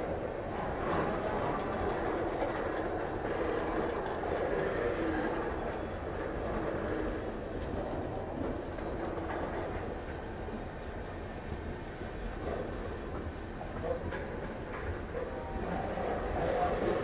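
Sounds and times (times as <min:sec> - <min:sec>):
steel wheels running on rails: 0:00.0 - 0:17.0.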